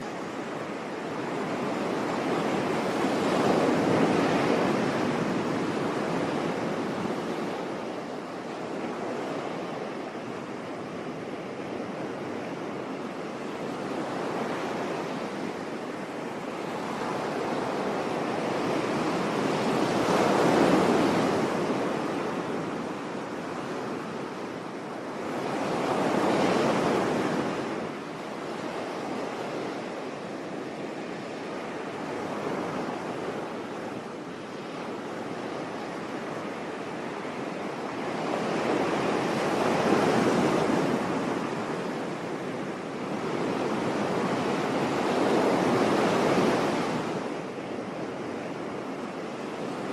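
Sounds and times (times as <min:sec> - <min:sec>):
sea waves breaking on beach: 0:00.0 - 0:49.9.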